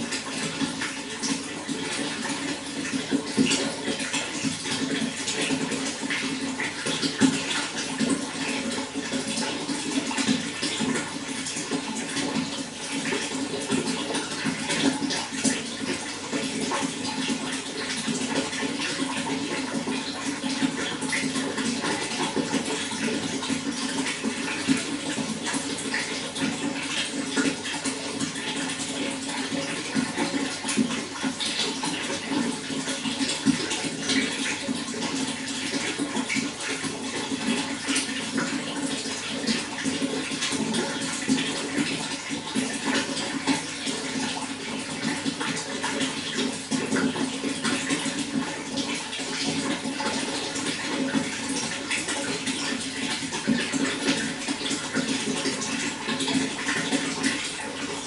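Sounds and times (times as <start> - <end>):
running water flowing: 0.0 - 58.0.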